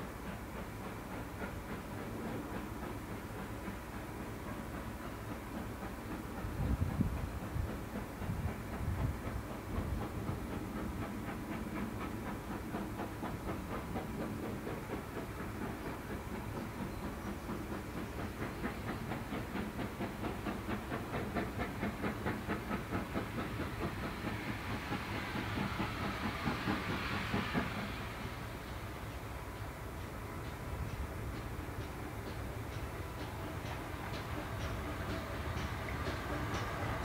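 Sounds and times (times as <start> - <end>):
steam hissing: 0.0 - 37.0
steam locomotive exhaust beating: 0.0 - 37.0.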